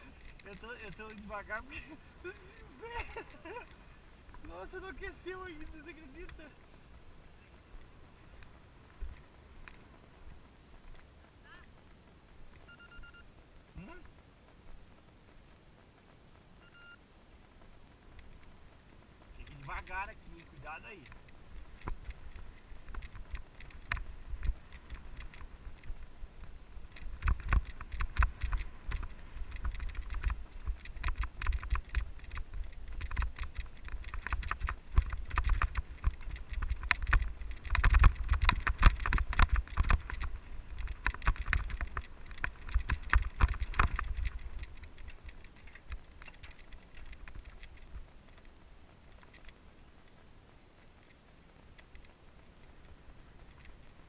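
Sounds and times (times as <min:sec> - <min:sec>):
mountain bike rattling over trail: 0:00.0 - 0:54.0.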